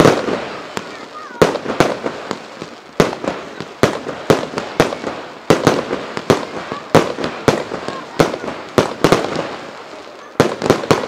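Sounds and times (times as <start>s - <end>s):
fireworks bangs echoing: 0.0s - 11.0s.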